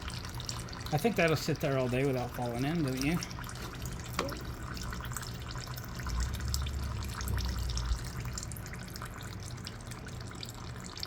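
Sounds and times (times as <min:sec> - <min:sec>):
oil dripping into a pan: 0:00.0 - 0:11.0.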